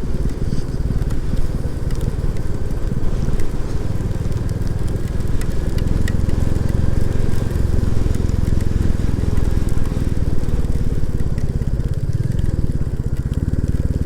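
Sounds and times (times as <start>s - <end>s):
faint ticks: 0.0s - 14.0s
motorcycle engine running: 0.0s - 14.0s
wind and road noise: 0.0s - 14.0s.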